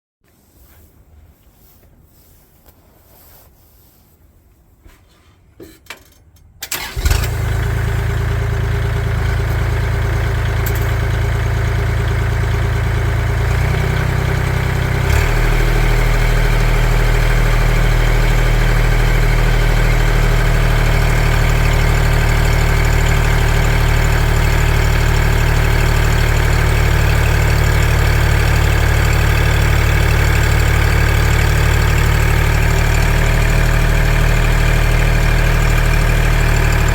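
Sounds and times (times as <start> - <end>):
engine starting and running: 6.6 - 36.9.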